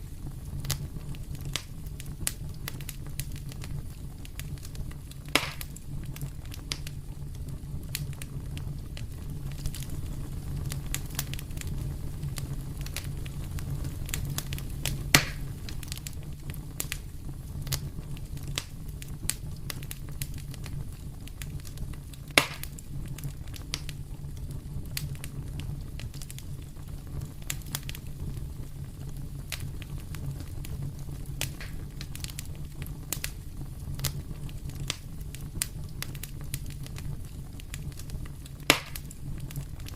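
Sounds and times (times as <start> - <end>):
loud fire pops: 0.0 - 39.9
wood fire crackling: 0.0 - 39.9.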